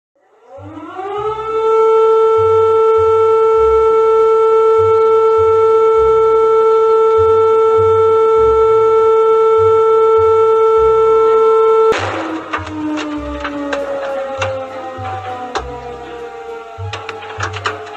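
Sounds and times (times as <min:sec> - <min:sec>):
alarm siren winding up: 0:00.5 - 0:17.9.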